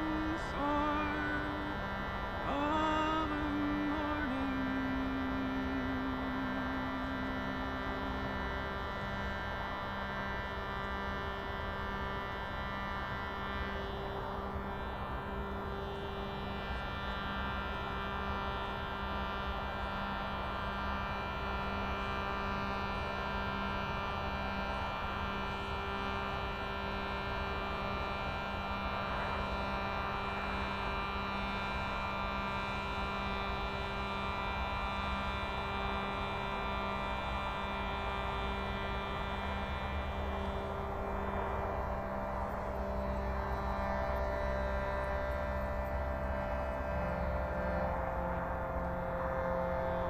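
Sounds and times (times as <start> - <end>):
reed drone box chord: 0.0 - 50.0.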